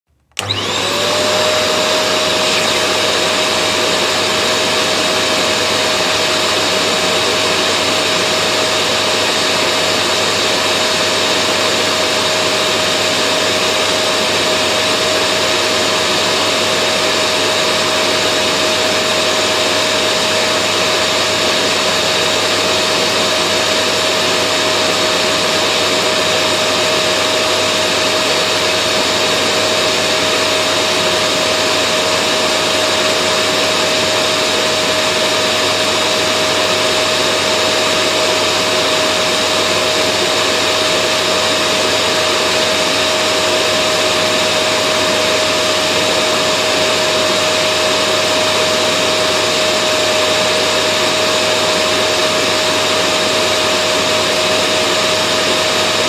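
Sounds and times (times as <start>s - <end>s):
vacuum cleaner running: 0.2s - 56.0s.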